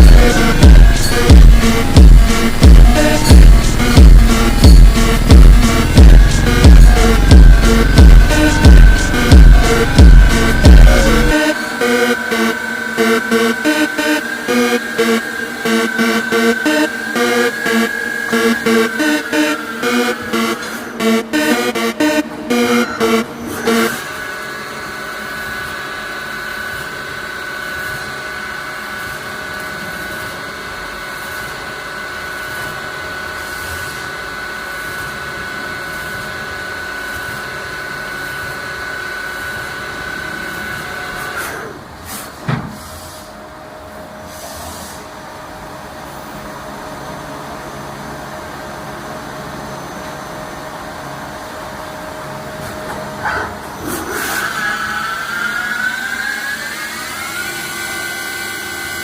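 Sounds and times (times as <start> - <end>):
cnc machine whine: 0.0 - 42.4, 43.1 - 59.0.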